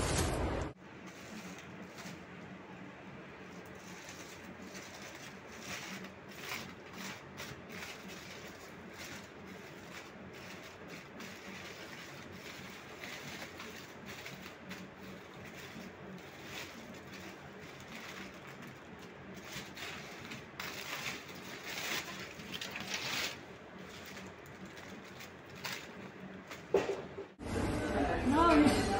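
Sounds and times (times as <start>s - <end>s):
aluminium foil crinkling: 1.0s - 2.4s, 3.5s - 26.8s.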